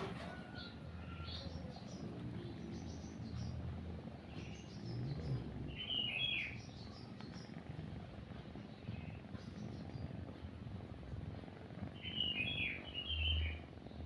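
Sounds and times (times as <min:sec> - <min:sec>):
cat purring: 0:00.0 - 0:14.0
small birds chirping: 0:00.2 - 0:14.0.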